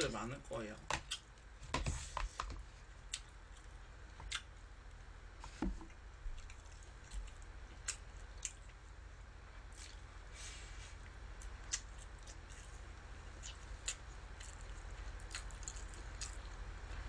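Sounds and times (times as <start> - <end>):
soft chewing: 0.8 - 17.0.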